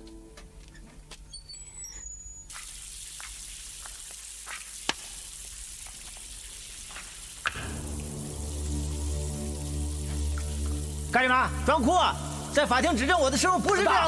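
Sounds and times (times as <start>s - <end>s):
running water spraying: 2.5s - 14.0s
water drips and splashes: 2.5s - 14.0s.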